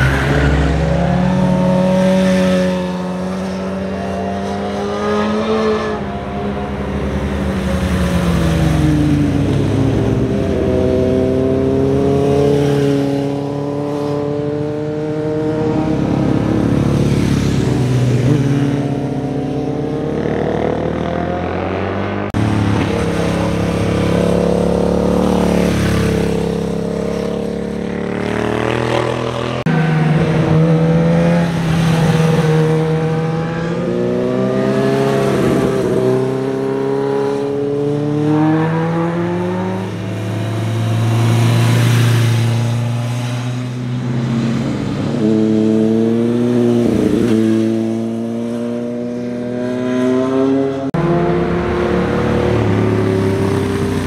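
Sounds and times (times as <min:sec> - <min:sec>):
motorcycles passing revving: 0:00.0 - 0:54.0.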